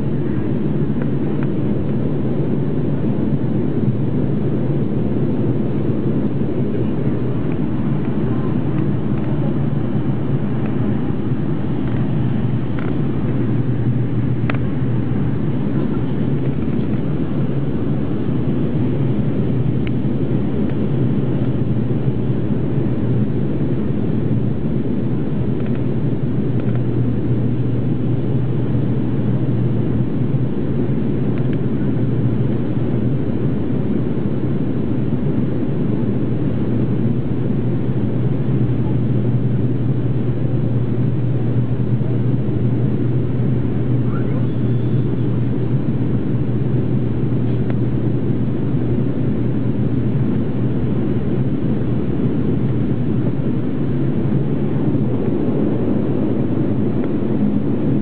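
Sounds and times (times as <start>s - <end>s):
turboprop cabin drone: 0.0s - 58.0s.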